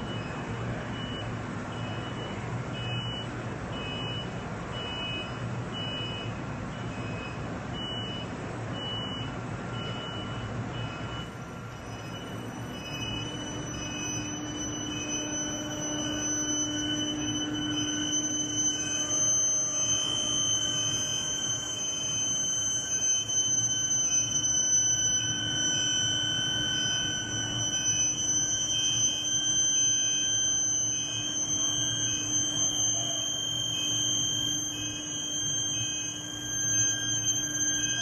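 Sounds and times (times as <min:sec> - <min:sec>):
high-pitched furnace whine: 0:00.0 - 0:38.0.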